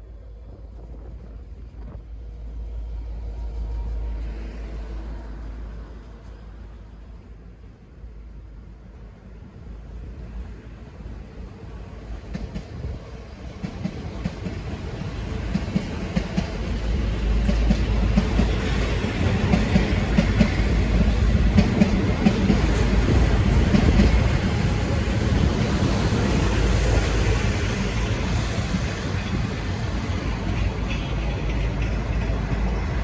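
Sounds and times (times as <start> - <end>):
diesel locomotive engine: 0.0 - 33.0.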